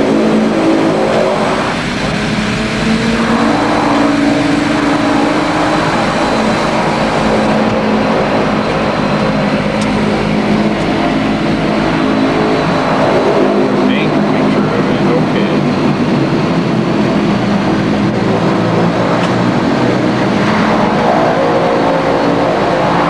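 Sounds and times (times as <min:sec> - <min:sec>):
plane engine and propeller drone: 0:00.0 - 0:23.0.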